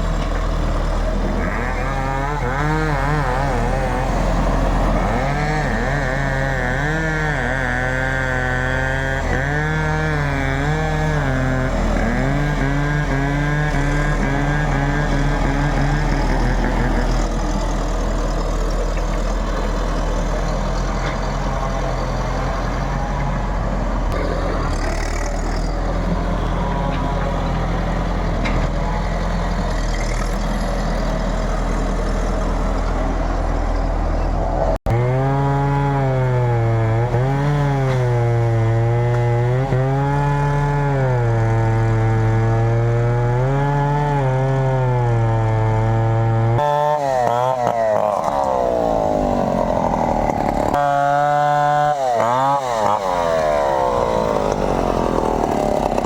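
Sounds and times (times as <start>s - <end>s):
backhoe diesel engine running: 0.0s - 56.0s.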